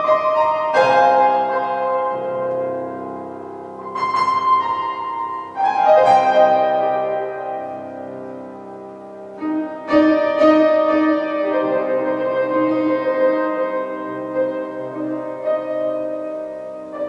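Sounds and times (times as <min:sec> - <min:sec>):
grand piano chords: 0:00.0 - 0:17.0.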